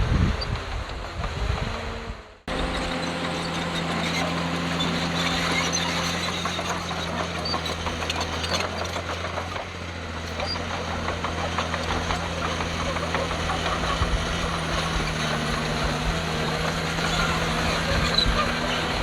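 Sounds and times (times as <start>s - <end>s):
heavy machinery diesel engine: 0.0s - 19.0s.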